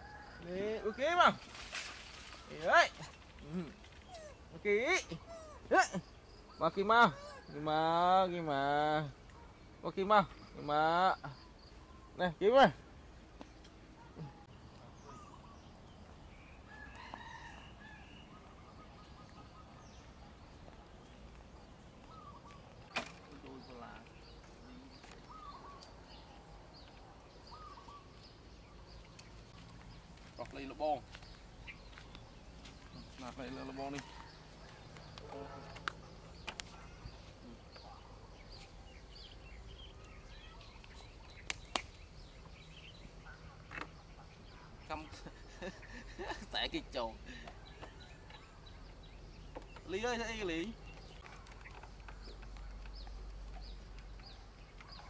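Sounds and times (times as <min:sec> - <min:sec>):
faint bird calls: 0:01.8 - 0:08.2, 0:08.8 - 0:55.0.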